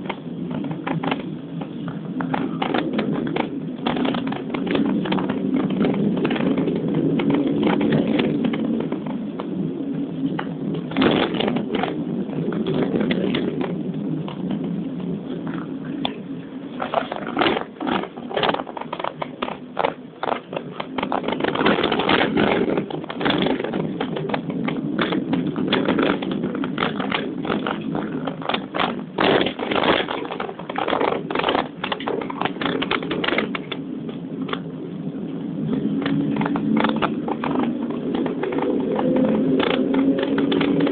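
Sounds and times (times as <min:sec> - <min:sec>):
clicks and rattles: 0:00.0 - 0:09.6, 0:10.3 - 0:14.7, 0:15.4 - 0:34.7, 0:35.6 - 0:40.9
car cabin rumble: 0:00.0 - 0:40.9.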